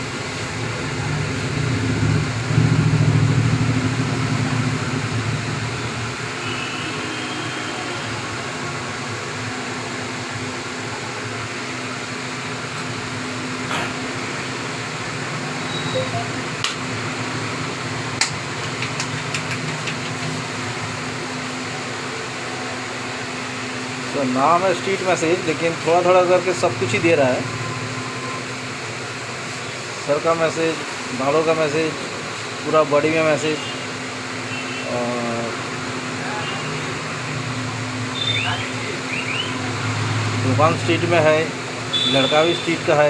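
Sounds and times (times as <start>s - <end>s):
street background hum: 0.0s - 43.0s.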